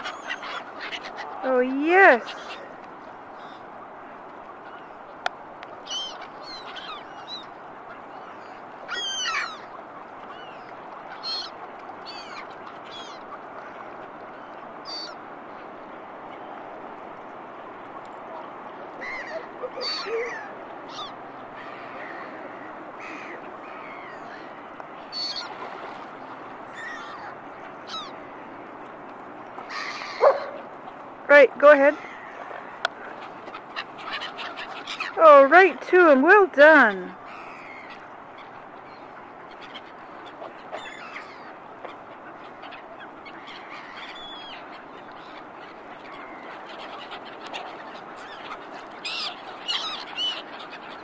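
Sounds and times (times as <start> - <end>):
gulls and ducks calling: 0.0 - 16.6, 18.3 - 28.6, 29.6 - 51.0.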